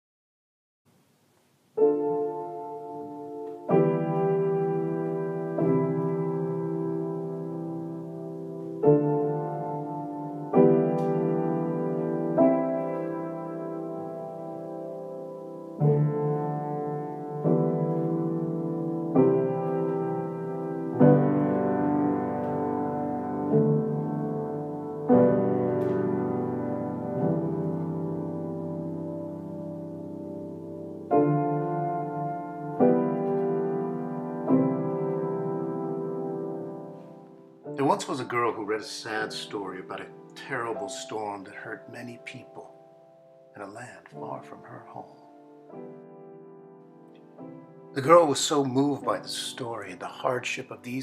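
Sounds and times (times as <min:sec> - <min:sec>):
slow piano chords: 0:00.9 - 0:51.0.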